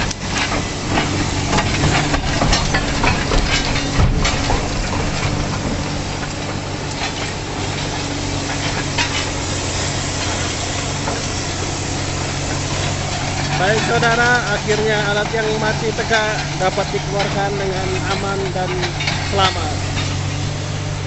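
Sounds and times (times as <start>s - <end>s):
heavy machinery engine running: 0.0s - 21.0s
metal clanks and knocks: 0.0s - 21.0s.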